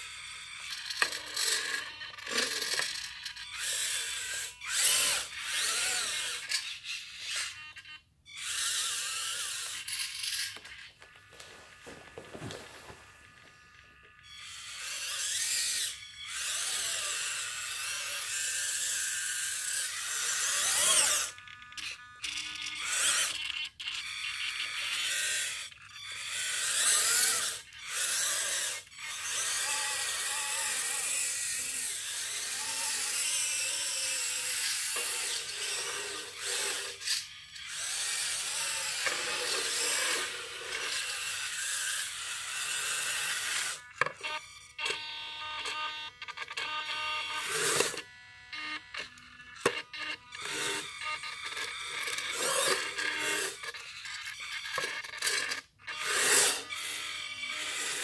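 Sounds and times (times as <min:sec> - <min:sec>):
toy electric motors whining: 0:00.0 - 0:58.0.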